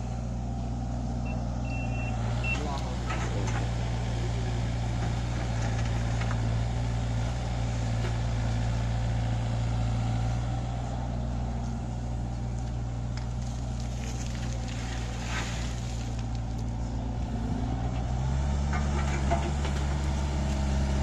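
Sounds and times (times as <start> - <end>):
excavator diesel engine under load: 0.0 - 21.0.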